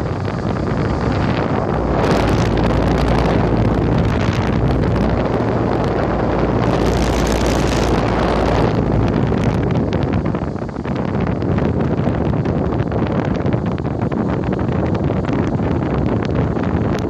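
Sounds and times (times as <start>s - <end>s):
low hum: 0.0s - 14.4s
air conditioner fan rushing: 0.0s - 17.0s.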